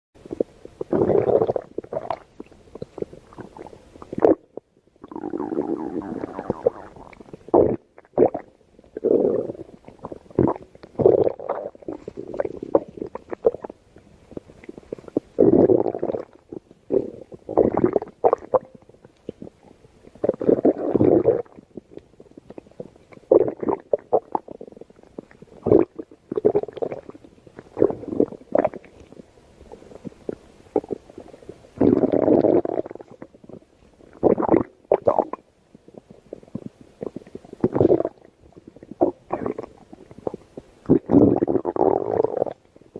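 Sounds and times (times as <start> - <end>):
stomach growling: 0.3 - 42.9.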